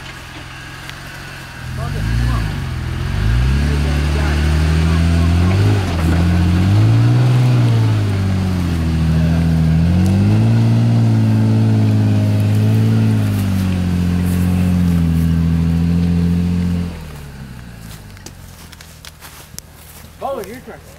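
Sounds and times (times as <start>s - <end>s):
pickup engine revving under load: 0.0s - 20.3s.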